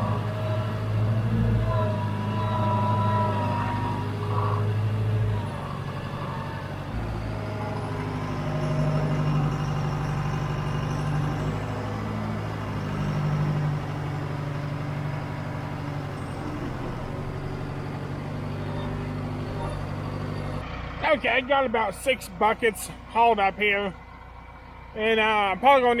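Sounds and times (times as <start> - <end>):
backhoe engine running: 0.0 - 26.0.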